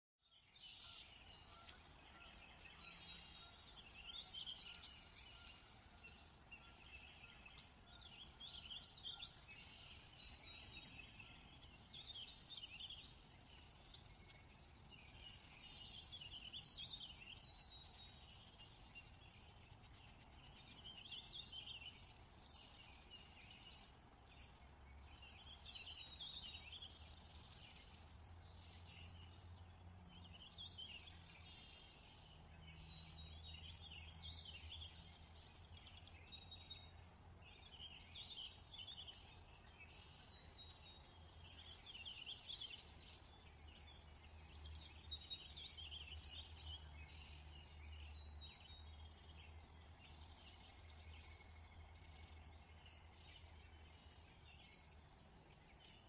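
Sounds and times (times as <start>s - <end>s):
songbirds chirping: 0.2s - 56.0s.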